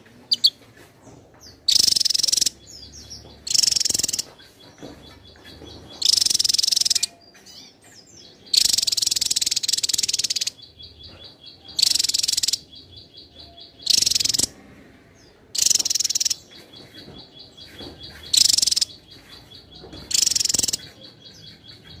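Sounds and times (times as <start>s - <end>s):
bird singing high rapid song: 0.0s - 22.0s.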